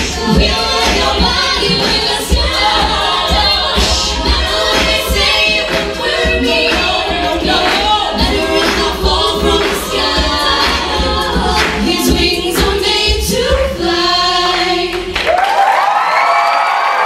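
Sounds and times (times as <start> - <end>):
women singing in close harmony: 0.0 - 15.1
vocal percussion: 0.0 - 15.2.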